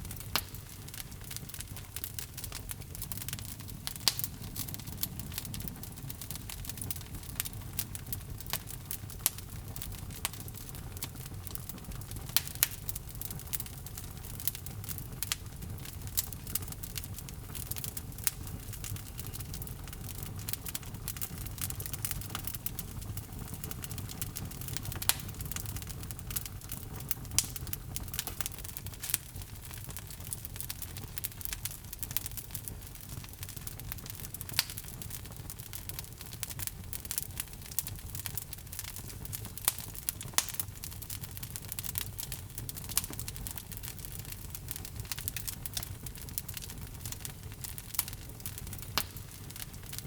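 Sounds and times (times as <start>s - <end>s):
log fire crackling and roaring: 0.0s - 50.0s.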